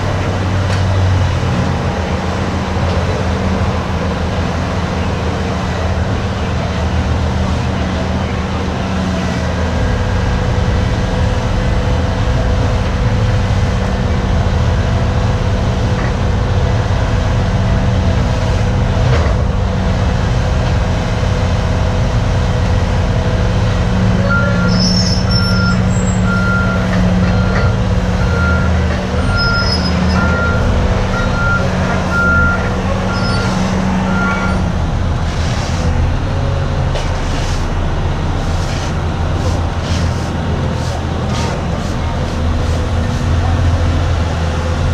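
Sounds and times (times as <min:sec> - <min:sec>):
heavy machinery diesel engine running: 0:00.0 - 0:44.9.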